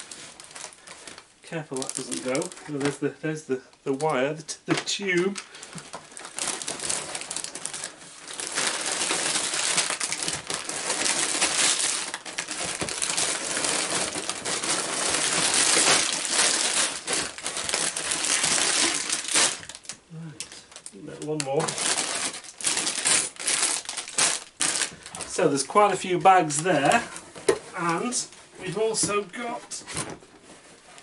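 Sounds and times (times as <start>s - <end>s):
plastic bags crinkling: 0.0s - 29.6s.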